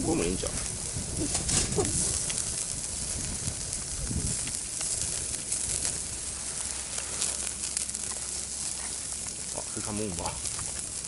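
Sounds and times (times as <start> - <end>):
food sizzling on grill: 0.0 - 11.0
wood fire crackling: 0.0 - 11.0.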